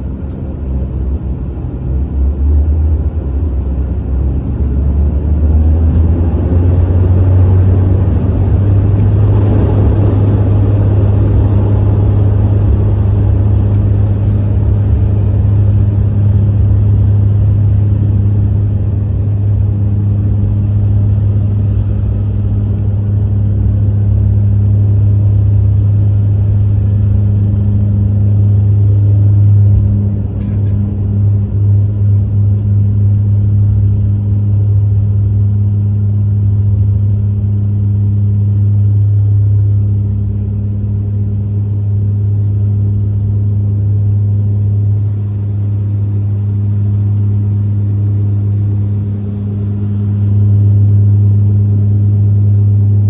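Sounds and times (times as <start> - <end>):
loud propeller drone: 0.0 - 53.0
turboprop engine whine: 0.0 - 53.0.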